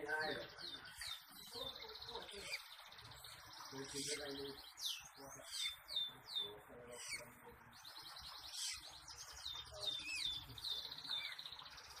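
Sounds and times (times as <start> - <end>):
bird singing whistles and trills: 0.3 - 12.0.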